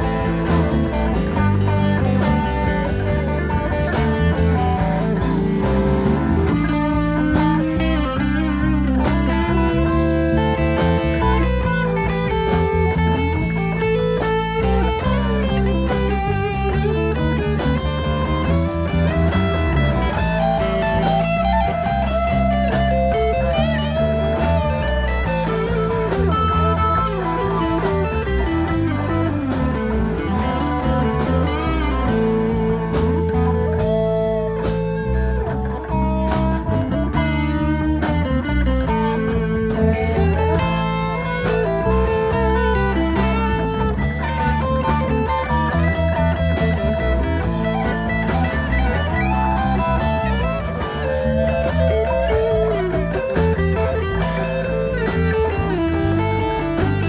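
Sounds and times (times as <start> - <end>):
blues-rock band playing: 0.0 - 57.0
electric guitar solo: 0.0 - 57.0.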